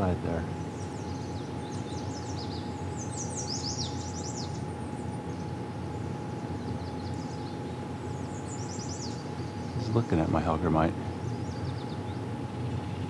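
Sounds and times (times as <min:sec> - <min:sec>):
faint hum: 0:00.0 - 0:13.0
songbird singing: 0:00.0 - 0:13.0.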